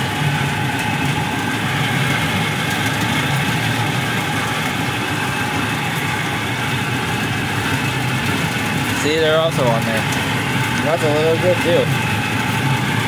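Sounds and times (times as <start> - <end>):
small ride train rumbling: 0.0 - 13.0.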